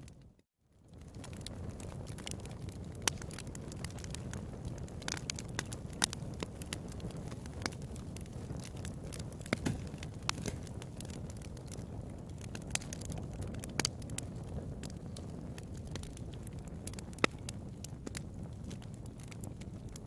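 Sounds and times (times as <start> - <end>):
fire popping: 0.0 - 20.0
low rumble of burning: 0.0 - 20.0
wood fire crackling: 0.0 - 20.0.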